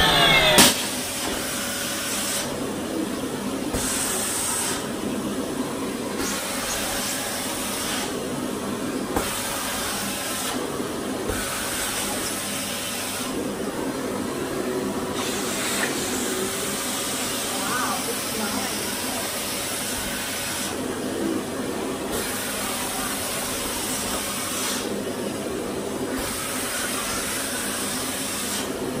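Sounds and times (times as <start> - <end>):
vacuum cleaner on fabric curtain: 0.0 - 29.0.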